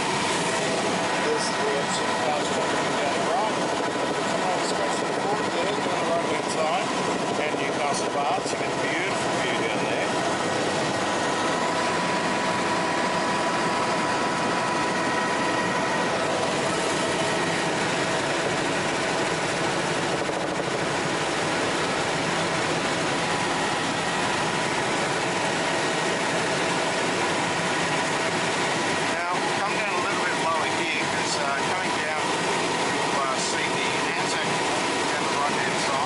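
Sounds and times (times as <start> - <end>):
helicopter rotor and airflow rush: 0.0 - 36.0
turbine engine whine: 0.0 - 36.0.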